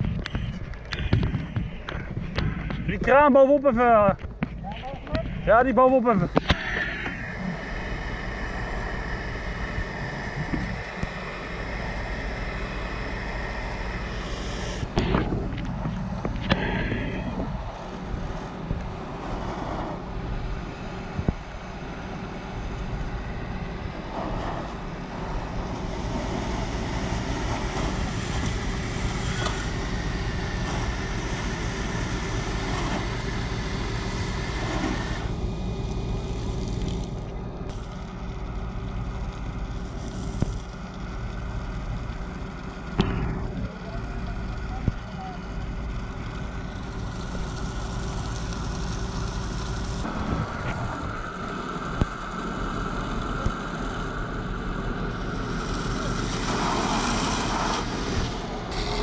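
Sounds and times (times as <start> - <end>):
fire engine pump engine running: 0.0 - 59.0.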